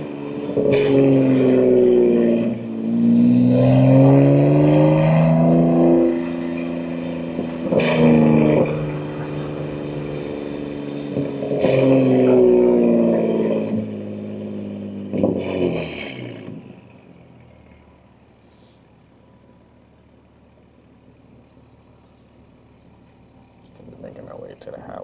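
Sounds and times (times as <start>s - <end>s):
car exhaust under load: 0.0s - 25.0s.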